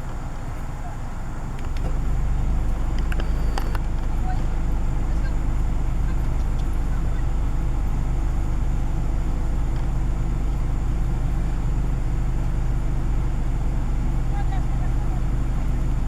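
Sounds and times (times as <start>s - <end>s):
road noise: 0.0s - 16.0s
vehicle engine rumbling: 0.0s - 16.0s.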